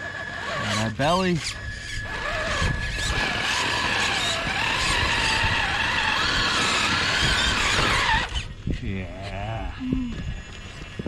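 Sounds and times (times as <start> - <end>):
electric motor and drivetrain whining: 0.0 - 11.0.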